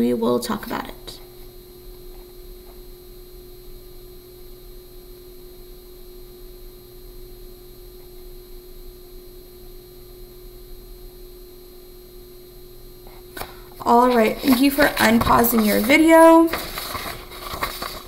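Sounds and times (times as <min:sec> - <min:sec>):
constant mid-pitched tone: 0:00.0 - 0:17.9
background hum and hiss: 0:00.0 - 0:18.0.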